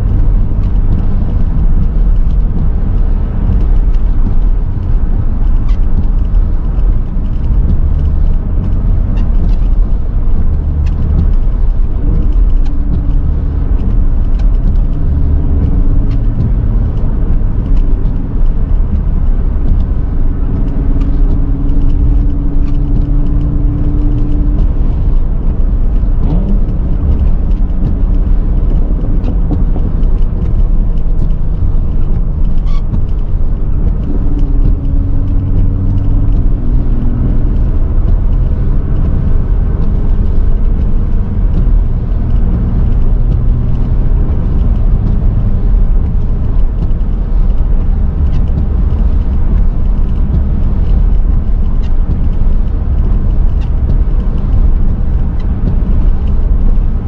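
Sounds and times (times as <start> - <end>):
car driving rumble: 0.0 - 57.0
windshield wipers sweeping: 0.0 - 57.0.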